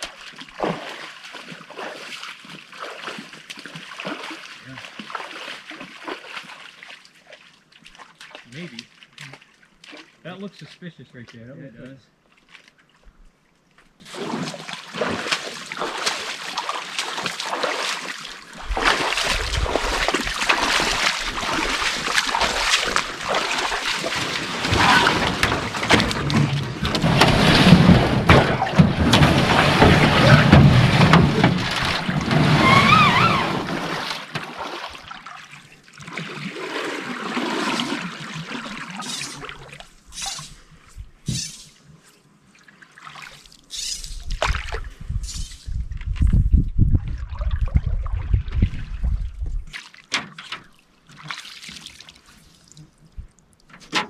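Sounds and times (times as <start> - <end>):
water splashing and sloshing: 0.0 - 11.5, 12.2 - 54.0.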